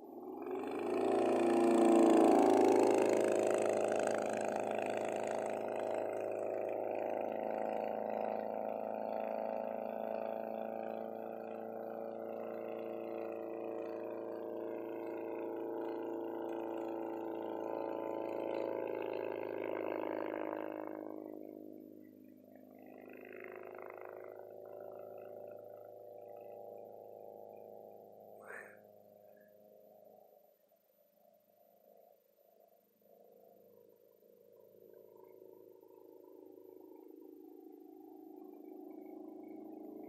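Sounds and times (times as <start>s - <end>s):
light aircraft propeller engine: 0.0s - 40.0s.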